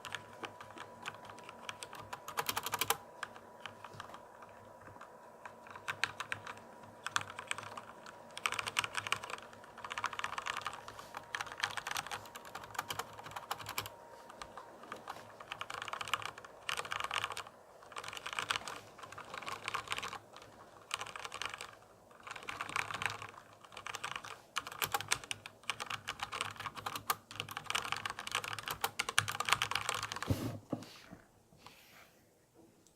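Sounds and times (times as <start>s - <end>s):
computer keyboard typing: 0.0s - 30.3s.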